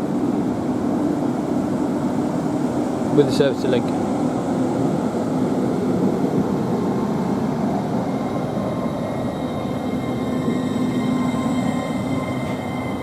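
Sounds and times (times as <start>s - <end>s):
train low hum: 0.0s - 13.0s
train whining tones: 0.0s - 13.0s.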